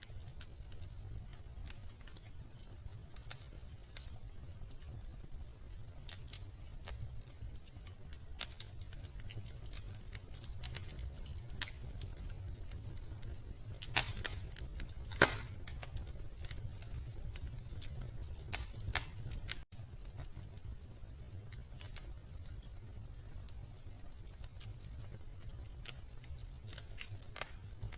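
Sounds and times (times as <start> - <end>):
loud pops of fire: 0.0 - 27.9
wood fire crackling: 0.0 - 27.9.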